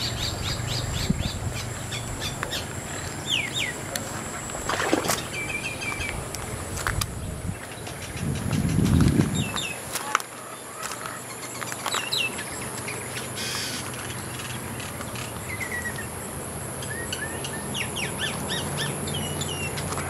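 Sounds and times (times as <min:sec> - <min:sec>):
birds chirping: 0:00.0 - 0:20.0
high insect drone: 0:00.0 - 0:20.0.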